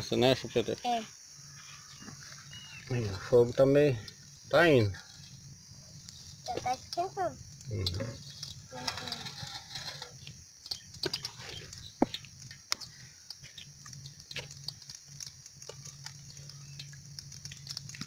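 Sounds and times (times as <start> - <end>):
low steady hum: 0.0 - 18.0
wood fire crackling: 0.1 - 18.0.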